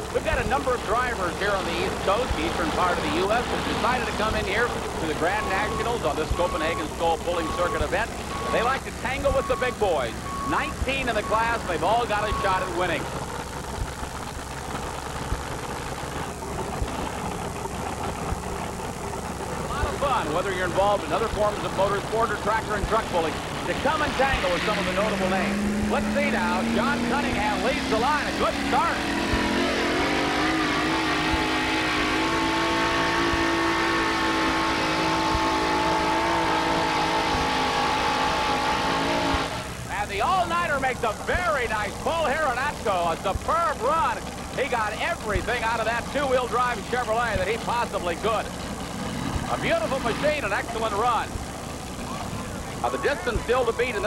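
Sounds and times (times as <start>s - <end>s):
truck engine idling: 0.0s - 32.3s, 39.6s - 54.0s.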